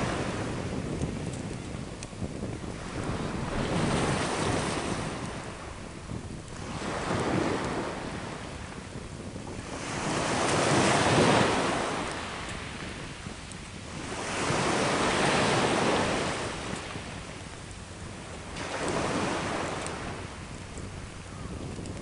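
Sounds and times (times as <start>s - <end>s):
sea waves breaking on shore: 0.0s - 22.0s.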